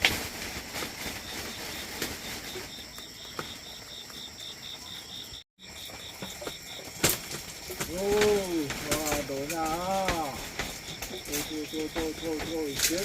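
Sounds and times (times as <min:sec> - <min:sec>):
cricket chirping: 0:00.7 - 0:13.0.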